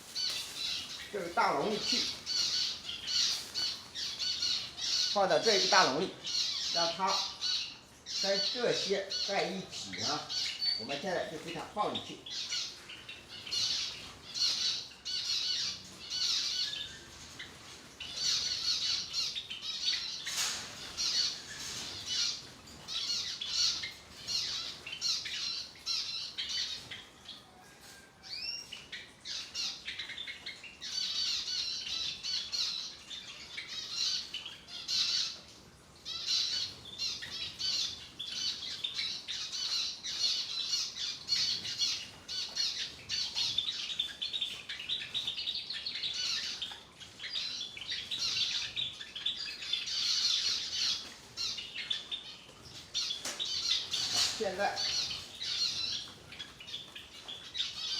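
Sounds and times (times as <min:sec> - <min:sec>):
zebra finches chattering: 0:00.0 - 0:57.9.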